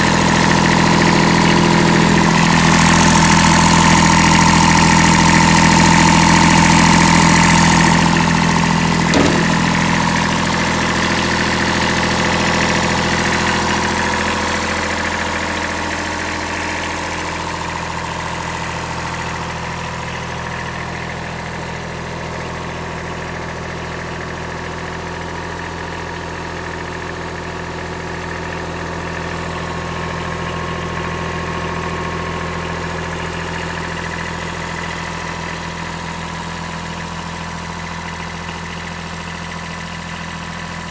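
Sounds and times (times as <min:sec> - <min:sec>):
diesel tractor engine idling: 0:00.0 - 0:40.9.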